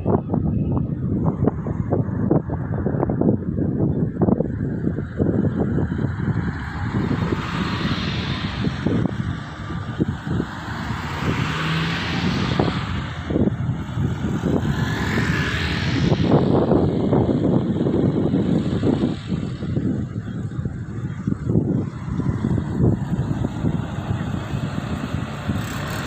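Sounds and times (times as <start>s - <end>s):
low traffic rumble: 0.0s - 26.0s
vehicles passing: 0.0s - 26.0s.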